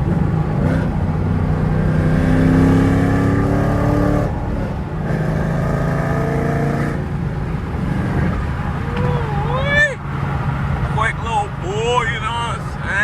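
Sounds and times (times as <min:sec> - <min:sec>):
vvee-eight car engine accelerating: 0:00.0 - 0:13.0.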